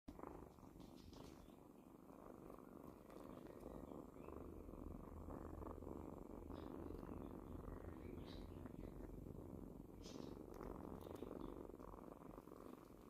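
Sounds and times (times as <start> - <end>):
kittens purring: 0.0 - 13.0.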